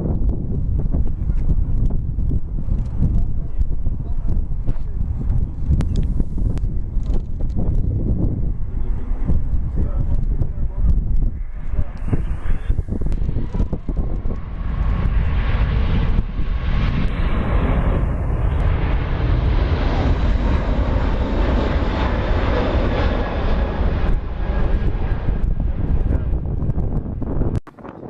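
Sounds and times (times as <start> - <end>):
airliner engine noise: 0.0 - 28.0
wind buffeting microphone: 0.0 - 28.0.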